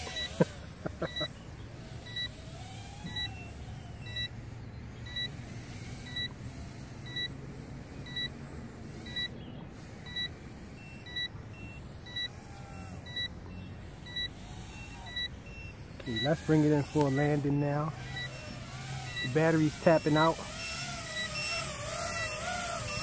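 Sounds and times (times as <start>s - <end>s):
short electronic beeps: 0.0s - 2.4s, 3.0s - 4.4s, 5.0s - 5.4s, 6.0s - 6.4s, 7.0s - 7.4s, 8.0s - 23.0s
steady low hum: 0.0s - 23.0s.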